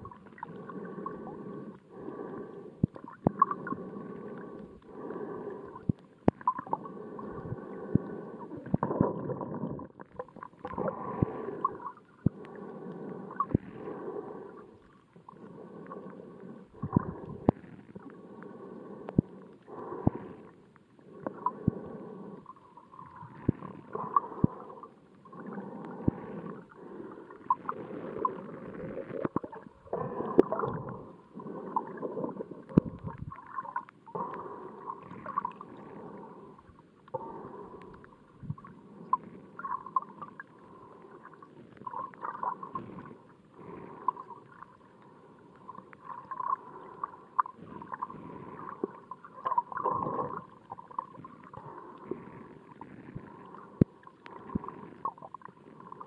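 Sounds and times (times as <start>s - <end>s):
underwater sloshing and gurgling: 0.0s - 56.0s.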